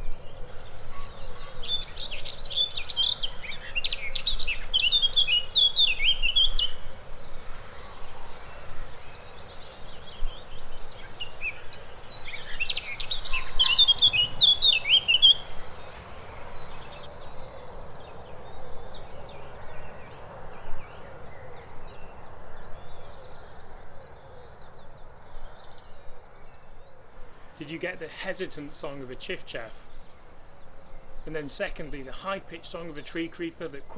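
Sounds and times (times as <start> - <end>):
bird warbling song: 0.0 - 33.9.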